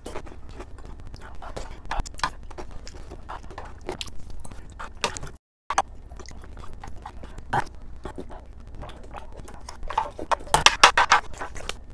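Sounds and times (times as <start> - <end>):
chewing noodles: 0.0 - 10.6.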